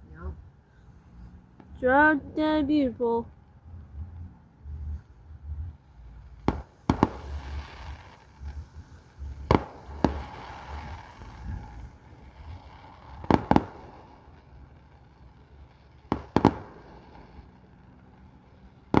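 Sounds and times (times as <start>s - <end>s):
fireworks crackling: 0.0s - 19.0s
fireworks bangs: 0.1s - 19.0s.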